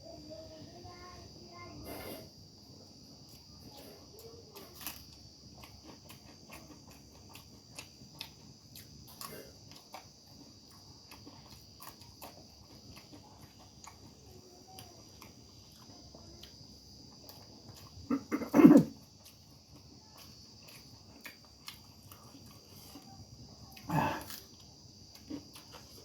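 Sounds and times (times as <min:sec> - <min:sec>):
faint high-pitched hiss: 0:00.0 - 0:26.0
chewing and smacking: 0:02.8 - 0:18.2, 0:18.9 - 0:26.0.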